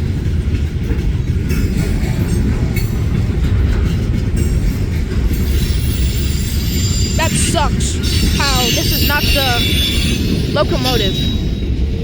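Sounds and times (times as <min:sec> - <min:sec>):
rail joint clicks: 0:00.0 - 0:12.0
train wheels rumbling on rail: 0:00.0 - 0:12.0.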